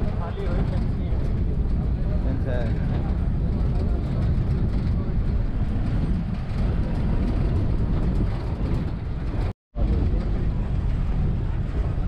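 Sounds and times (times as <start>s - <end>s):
vehicle driving on dirt track: 0.0s - 12.0s.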